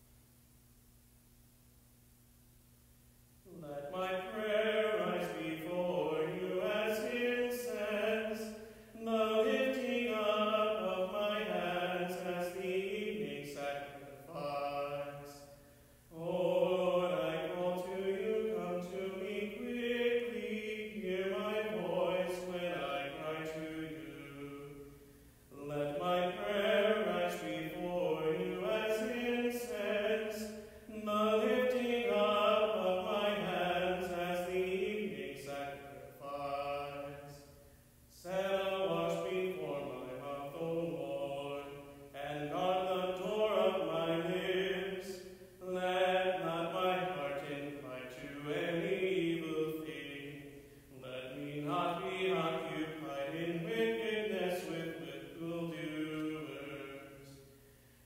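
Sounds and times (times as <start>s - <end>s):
man chanting liturgy: 3.5s - 24.9s, 25.5s - 57.5s.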